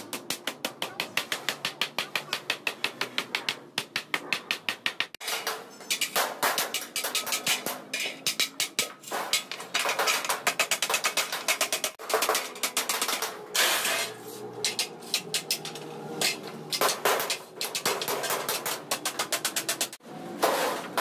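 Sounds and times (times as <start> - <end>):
hammer striking sheet metal: 0.0 - 21.0.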